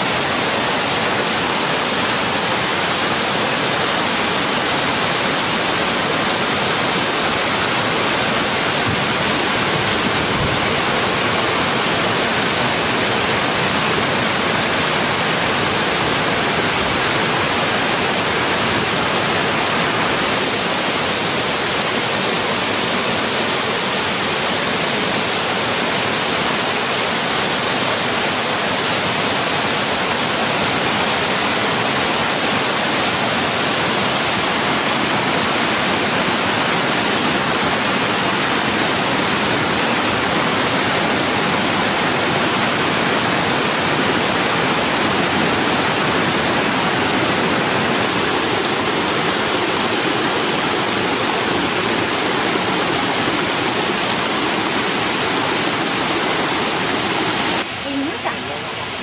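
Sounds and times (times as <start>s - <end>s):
stream water splashing over boulders: 0.0s - 59.0s.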